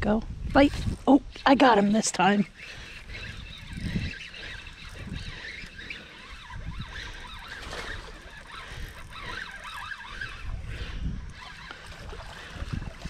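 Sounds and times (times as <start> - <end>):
wind rumble: 0.0 - 13.0
birds chirping: 0.6 - 13.0.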